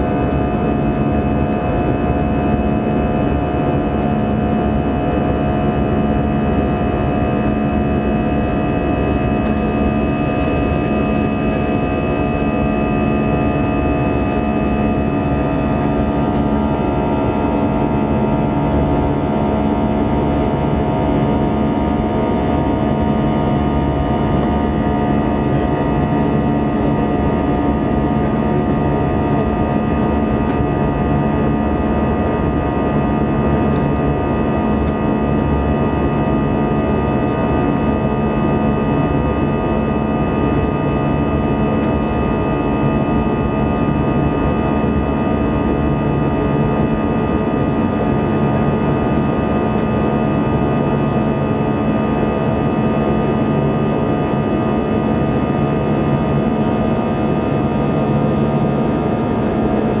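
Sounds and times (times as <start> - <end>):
airplane cabin engine drone: 0.0 - 60.0
humming and whining tones: 0.0 - 60.0.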